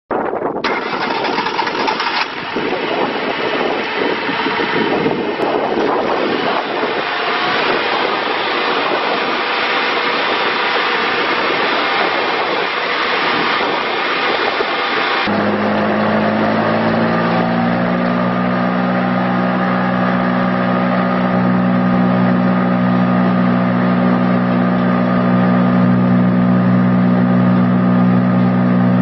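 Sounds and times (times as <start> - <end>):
wood chipper engine running: 0.6 - 29.0.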